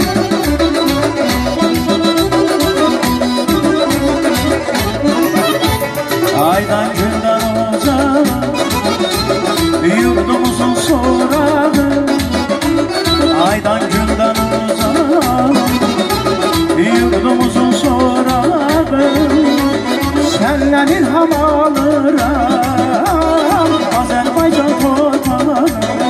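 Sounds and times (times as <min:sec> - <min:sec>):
accordion: 0:00.0 - 0:26.0
electronic keyboard: 0:00.0 - 0:26.0
hand drum beat: 0:00.0 - 0:26.0
long-necked lute: 0:00.0 - 0:26.0
man singing into a microphone: 0:02.0 - 0:26.0.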